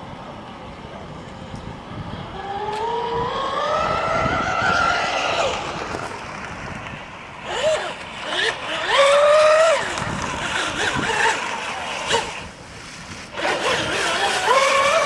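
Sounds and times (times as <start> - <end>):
model boat motor whine: 1.8 - 15.0.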